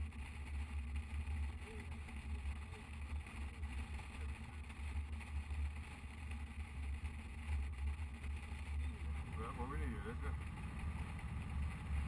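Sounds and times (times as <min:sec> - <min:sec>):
motorcycle engine drone: 0:00.0 - 0:12.0
road noise: 0:00.0 - 0:12.0.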